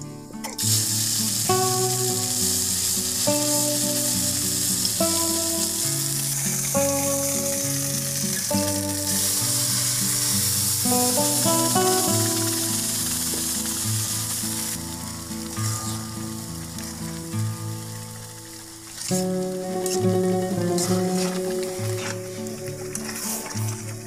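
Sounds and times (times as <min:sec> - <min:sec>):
slow background music: 0:00.0 - 0:24.0
hot oil sizzling: 0:00.5 - 0:24.0.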